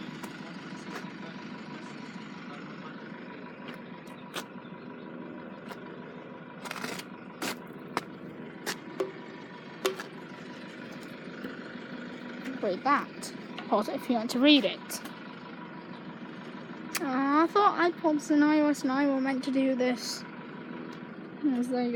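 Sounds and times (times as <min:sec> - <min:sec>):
vehicle engines running: 0:00.0 - 0:21.9.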